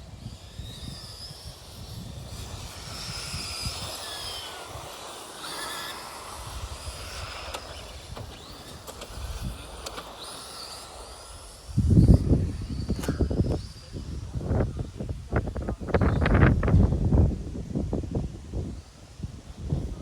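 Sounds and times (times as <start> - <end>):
rc truck motors whining: 0.0 - 17.3.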